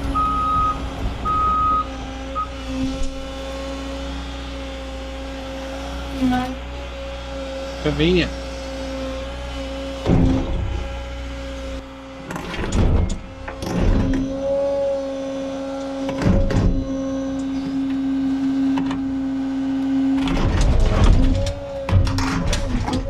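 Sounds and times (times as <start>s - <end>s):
excavator engine humming: 0.0s - 23.0s.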